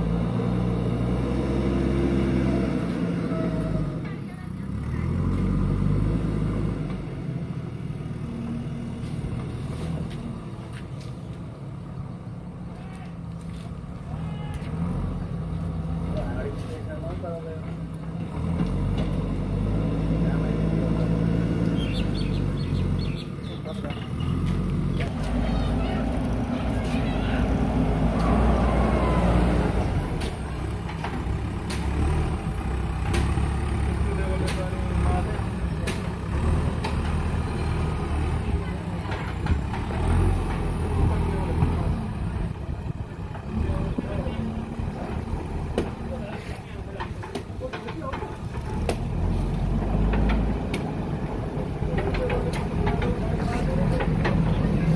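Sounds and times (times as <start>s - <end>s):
diesel engine working under load: 0.0s - 54.9s.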